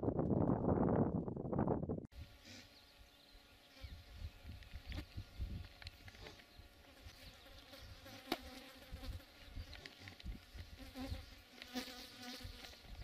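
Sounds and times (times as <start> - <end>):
insects buzzing: 2.2 - 13.0.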